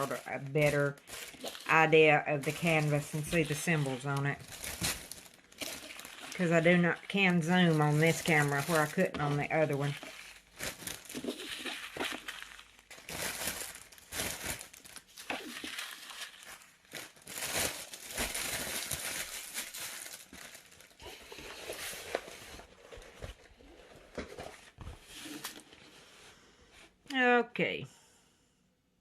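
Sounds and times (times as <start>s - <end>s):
plastic packaging crinkling: 0.0s - 25.8s.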